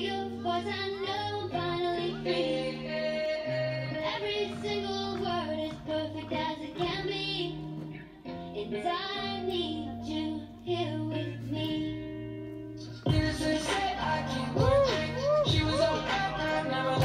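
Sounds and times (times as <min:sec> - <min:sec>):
song with singing and bass: 0:00.0 - 0:17.0.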